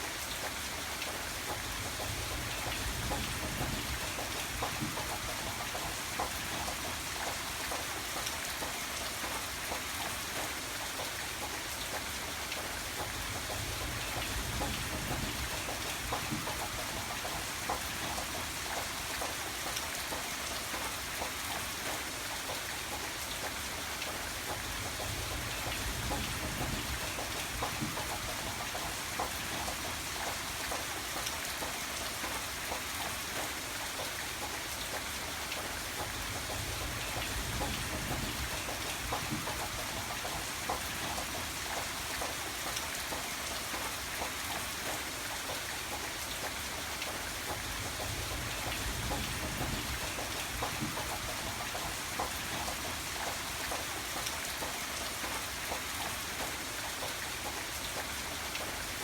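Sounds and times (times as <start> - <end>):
rain drops striking a surface: 0.0 - 59.0.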